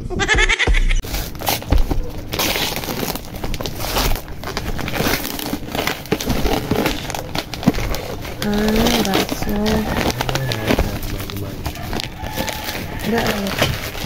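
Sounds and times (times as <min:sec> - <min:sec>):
paper crinkling and rustling: 0:01.0 - 0:14.0
wrapping paper tearing: 0:01.0 - 0:14.0.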